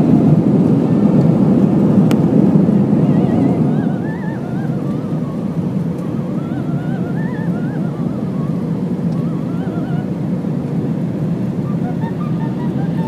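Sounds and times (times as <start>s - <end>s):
jet engine rumble in cabin: 0.0s - 13.0s
faint wavering whine: 2.0s - 13.0s.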